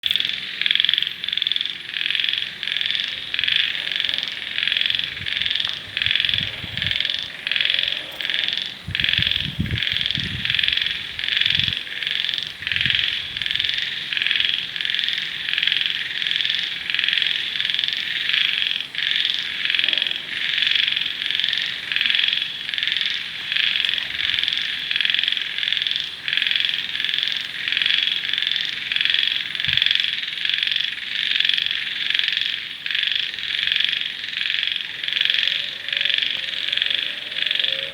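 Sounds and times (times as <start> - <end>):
frogs calling: 0.0 - 37.9.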